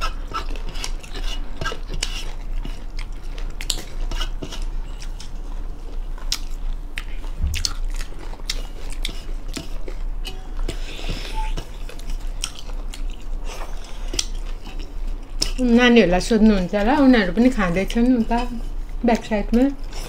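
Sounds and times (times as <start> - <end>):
people chewing food: 0.0 - 20.0.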